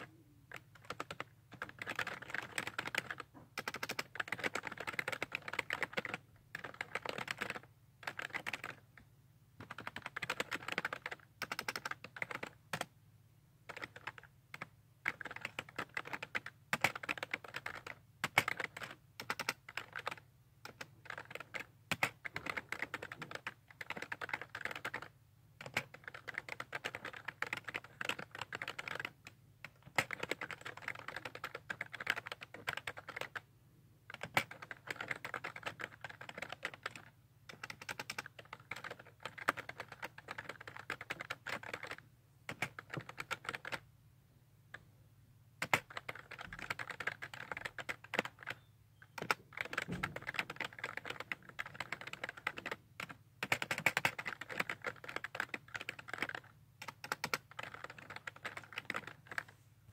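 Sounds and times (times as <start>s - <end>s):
keyboard typing: 0.0s - 9.0s, 9.6s - 12.9s, 13.7s - 33.4s, 34.1s - 43.8s, 45.6s - 59.6s.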